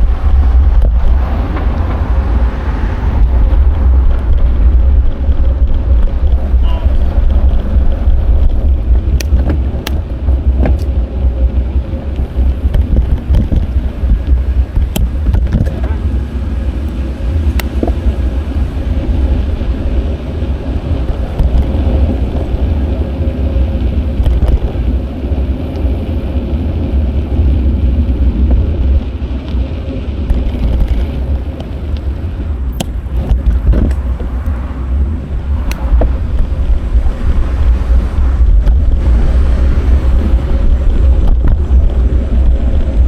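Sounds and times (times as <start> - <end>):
street traffic: 0.0 - 43.0
wind rushing over microphone: 0.0 - 43.0.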